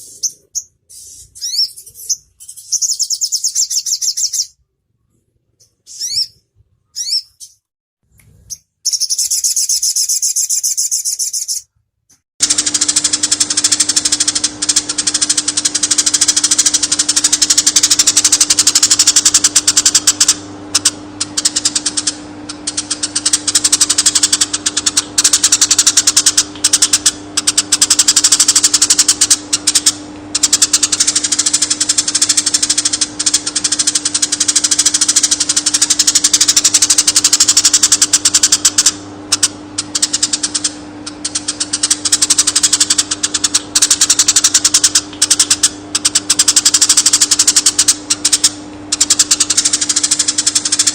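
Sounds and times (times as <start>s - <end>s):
bird chattering trills: 0.0s - 4.6s, 5.6s - 7.7s, 8.4s - 11.7s, 12.4s - 50.9s
steady low hum: 0.0s - 50.9s.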